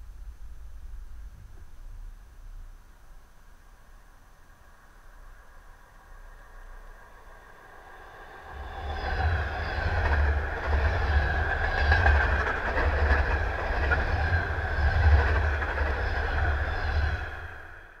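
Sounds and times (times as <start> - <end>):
train passing rumble: 0.0 - 18.0.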